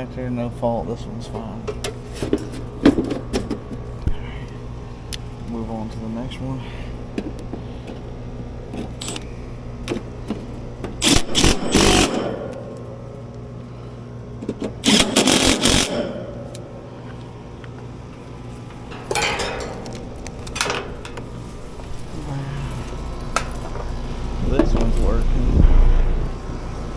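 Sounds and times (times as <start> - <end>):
air conditioning units humming: 0.0 - 26.9.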